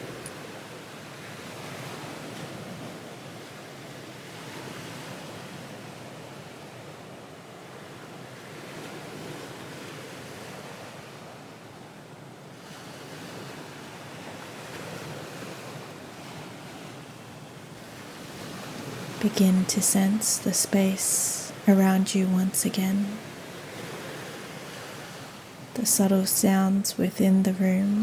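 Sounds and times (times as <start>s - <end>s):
ocean waves: 0.0s - 28.0s.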